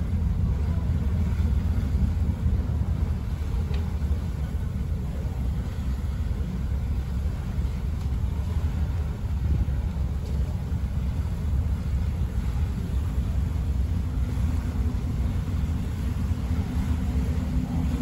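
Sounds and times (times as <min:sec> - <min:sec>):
ferry engine rumble: 0:00.0 - 0:18.0.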